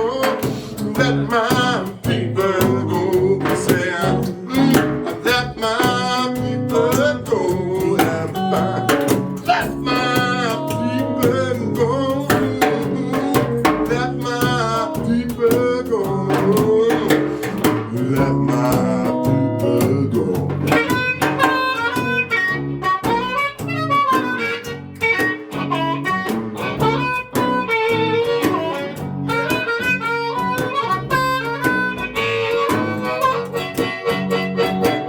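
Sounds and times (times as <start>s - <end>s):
bending lead melody: 0.0s - 35.0s
rhythm guitar: 0.0s - 35.0s.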